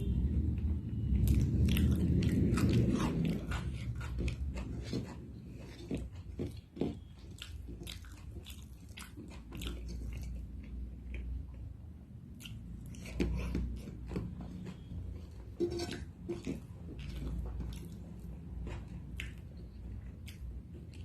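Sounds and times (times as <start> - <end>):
person chewing food: 1.1 - 21.0.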